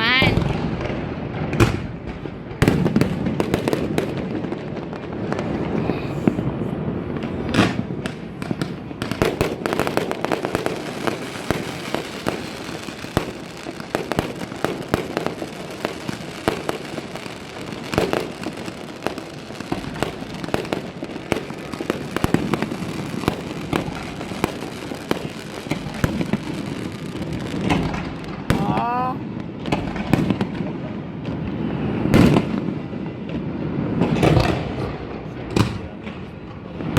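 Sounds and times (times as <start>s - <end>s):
distant explosions rumbling: 0.0s - 36.9s
fireworks crackling and popping: 0.0s - 36.9s
loud fireworks bangs: 0.0s - 36.9s.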